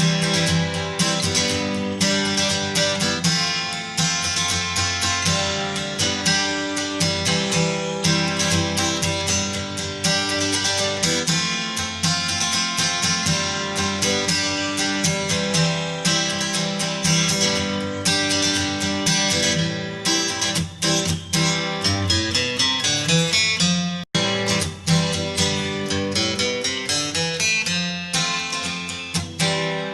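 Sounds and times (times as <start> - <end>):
acoustic guitar strumming: 0.0 - 29.9.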